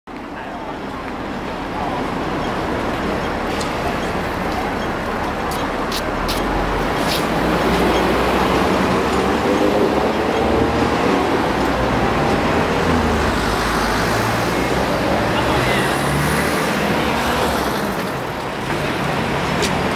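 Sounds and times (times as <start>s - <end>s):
street traffic: 0.1s - 19.9s
tram wheels rumbling on rails: 0.2s - 19.9s.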